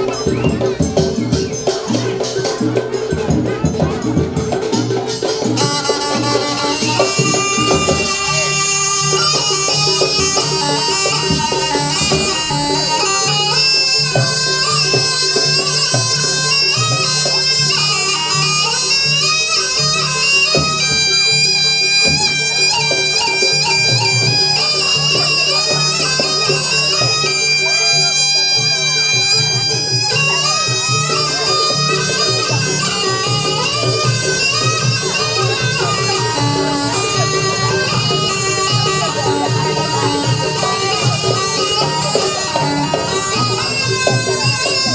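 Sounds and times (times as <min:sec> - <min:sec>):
drum strokes: 0:00.0 - 0:27.8, 0:28.5 - 0:44.9
reed wind instrument melody: 0:00.0 - 0:44.9.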